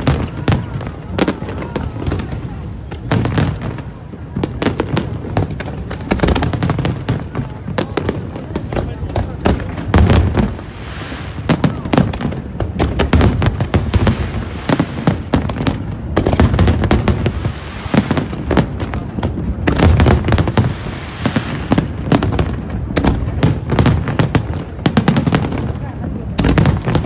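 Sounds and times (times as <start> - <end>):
fireworks booming: 0.0 - 27.0
fireworks cracking: 0.0 - 27.0.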